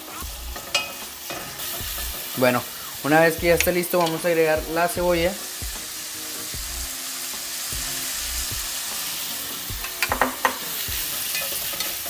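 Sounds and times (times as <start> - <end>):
bacon sizzling in frying pan: 0.0 - 12.0.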